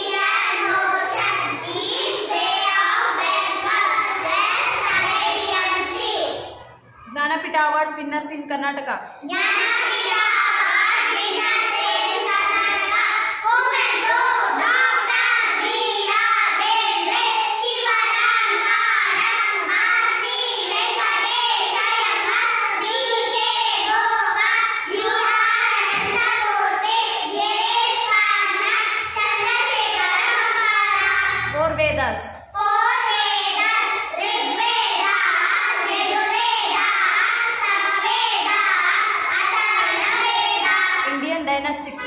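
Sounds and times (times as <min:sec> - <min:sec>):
girls chanting in unison: 0:00.0 - 0:06.6, 0:09.2 - 0:31.7, 0:32.4 - 0:41.1.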